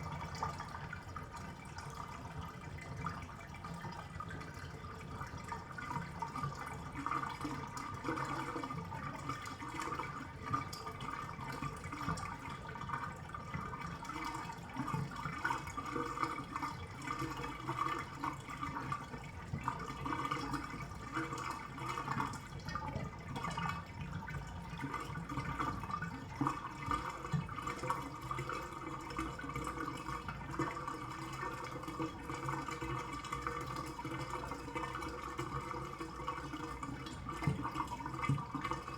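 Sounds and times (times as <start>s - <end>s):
bathtub water gurgling down drain: 0.0s - 38.9s.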